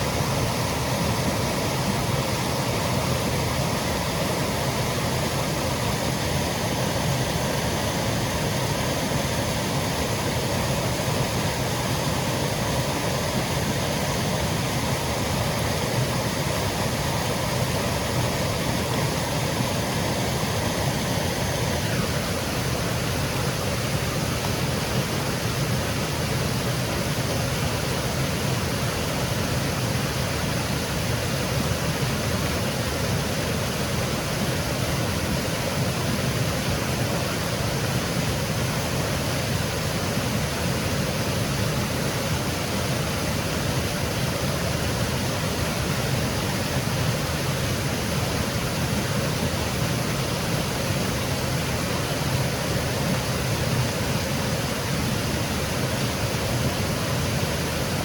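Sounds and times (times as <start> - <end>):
waterfall cascading over rocks: 0.0 - 58.0.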